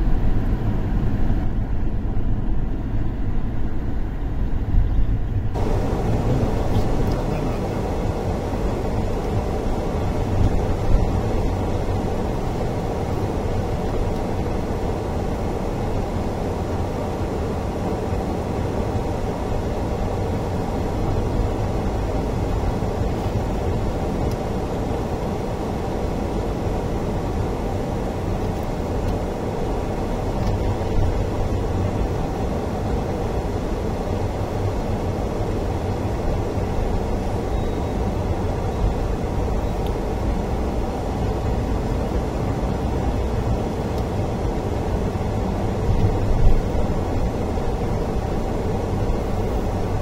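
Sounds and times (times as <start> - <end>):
car driving on wet road: 0.0 - 50.0.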